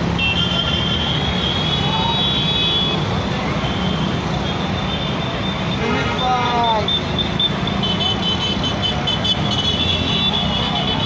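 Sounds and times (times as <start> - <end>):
motorcycles and cars driving: 0.0 - 11.0.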